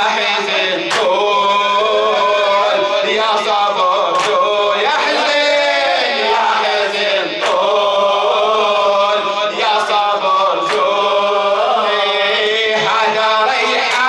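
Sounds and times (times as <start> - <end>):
man chanting lament: 0.0 - 14.0.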